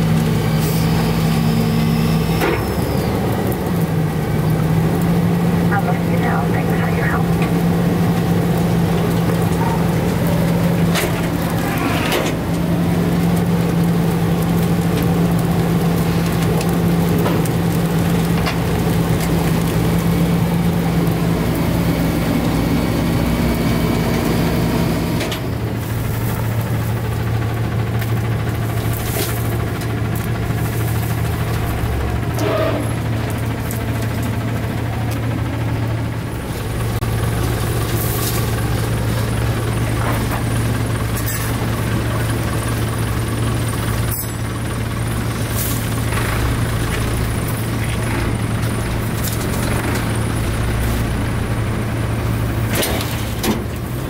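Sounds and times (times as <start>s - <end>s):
garbage truck engine running: 0.0s - 54.0s.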